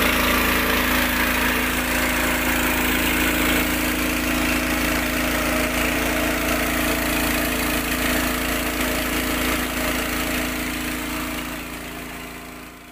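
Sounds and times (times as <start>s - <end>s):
water gushing and splashing: 0.0s - 11.0s
water pump engine running: 0.0s - 12.9s.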